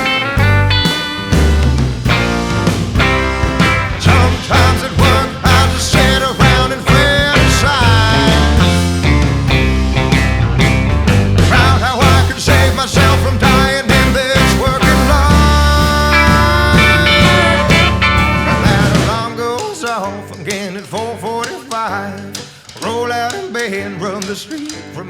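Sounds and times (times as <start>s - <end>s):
instrumental rock music: 0.0s - 25.0s.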